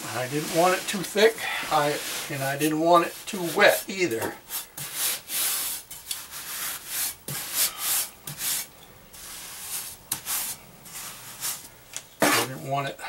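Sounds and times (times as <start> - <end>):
trowel scraping mortar: 0.1 - 12.7.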